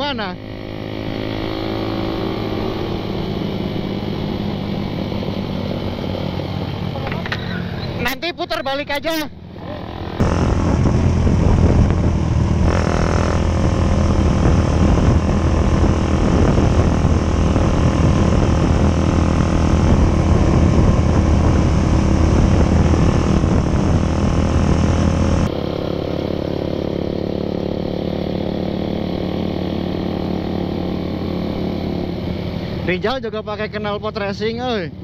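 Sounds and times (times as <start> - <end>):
motorcycle engine cruising: 0.0 - 35.0.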